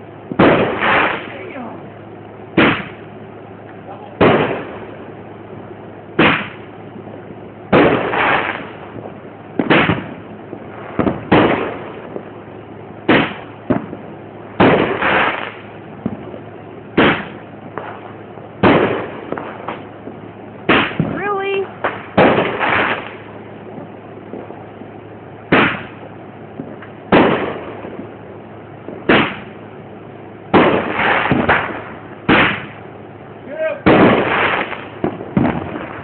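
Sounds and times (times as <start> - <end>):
firework bangs: 0.0 - 36.0.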